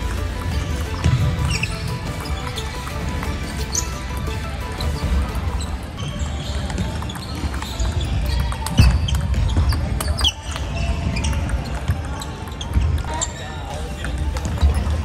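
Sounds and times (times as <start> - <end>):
table tennis balls clicking: 0.0 - 15.0.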